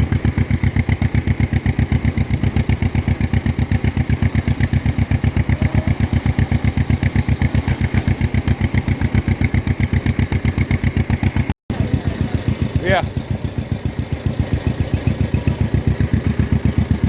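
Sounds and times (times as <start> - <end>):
two-cylinder engine running: 0.0 - 17.0.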